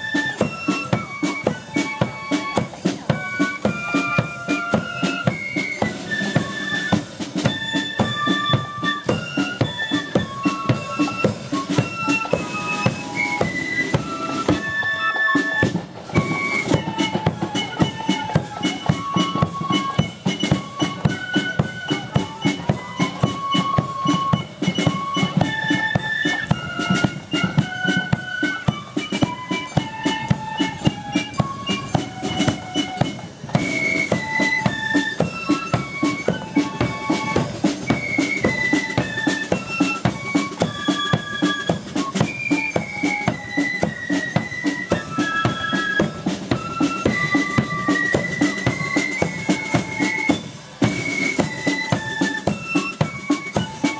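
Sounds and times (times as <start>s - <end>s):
flutes playing melody: 0.0s - 53.9s
marching drums: 0.0s - 53.9s.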